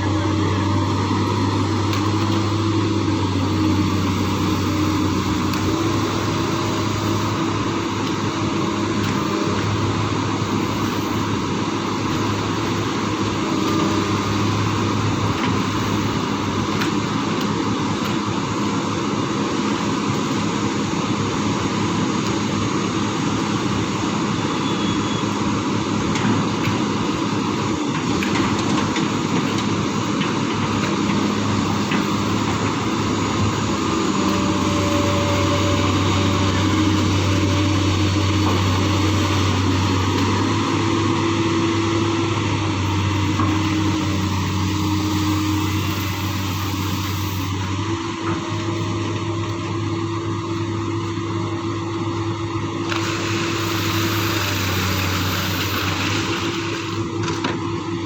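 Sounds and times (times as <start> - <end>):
excavator diesel engine: 0.0 - 58.0
rushing mechanical noise: 0.0 - 58.0.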